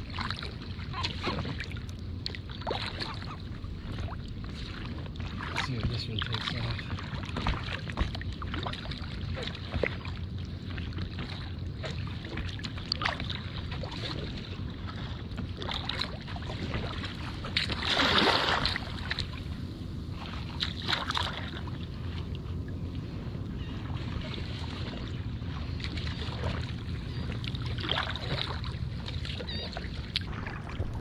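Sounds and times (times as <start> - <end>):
rush of water: 0.0 - 22.8, 23.6 - 31.0
paddle water splashing and dripping: 0.0 - 31.0
water lapping against hull: 0.0 - 31.0
wind rumble on microphone: 0.0 - 31.0.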